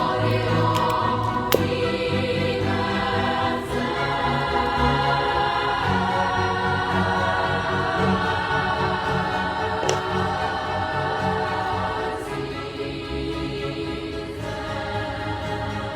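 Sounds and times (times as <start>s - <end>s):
choral singing: 0.0s - 15.9s
steady musical accompaniment: 0.0s - 15.9s.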